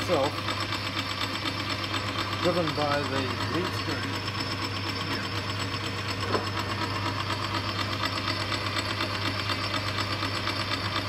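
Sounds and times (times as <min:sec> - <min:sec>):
lathe gear train clattering: 0:00.0 - 0:11.0.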